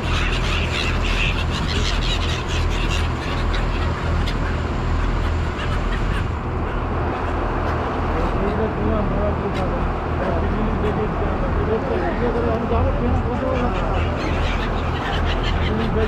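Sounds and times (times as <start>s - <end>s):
boat engine drone: 0.0s - 16.0s
gulls calling: 0.0s - 16.0s.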